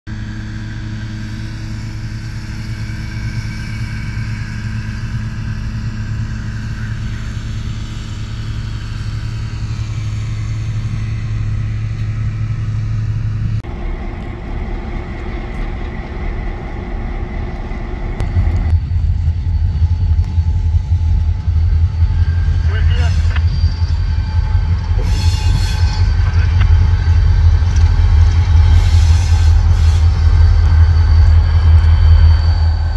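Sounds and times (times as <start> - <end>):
diesel locomotive engines rumbling: 0.1 - 32.9.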